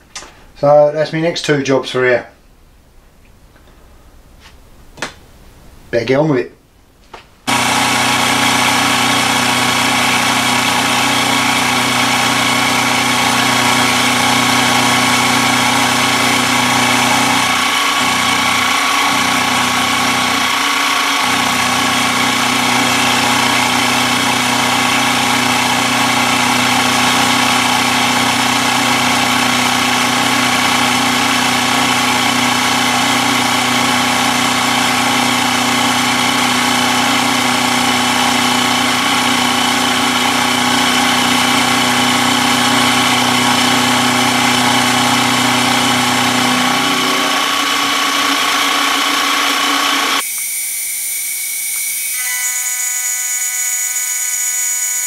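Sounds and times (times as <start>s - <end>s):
milling machine cutting steel: 7.5s - 55.0s.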